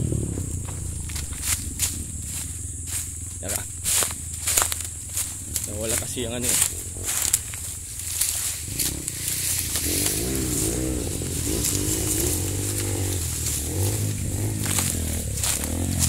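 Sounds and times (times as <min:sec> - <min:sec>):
dirt bike engine revving: 0:00.0 - 0:16.0
steady low drone: 0:00.0 - 0:16.0.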